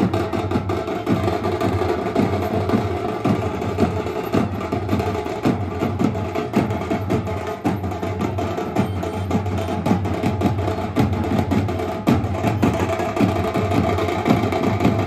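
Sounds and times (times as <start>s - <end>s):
band of drums playing fast: 0.0s - 15.0s.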